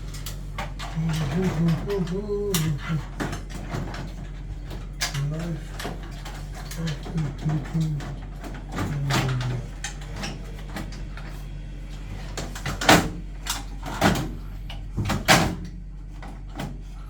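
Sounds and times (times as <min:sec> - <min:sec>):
hard parts knocking and clunking: 0:00.0 - 0:17.0
steady low hum: 0:00.0 - 0:17.0.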